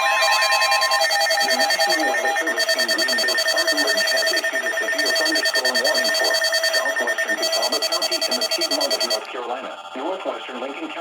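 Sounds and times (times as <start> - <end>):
pulsing electronic alert beep: 0.0 - 9.3.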